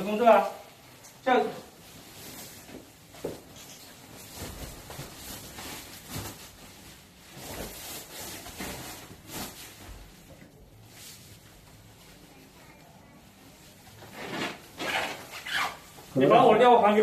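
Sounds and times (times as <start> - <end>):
synthetic fabric rustling: 0.0 - 17.0.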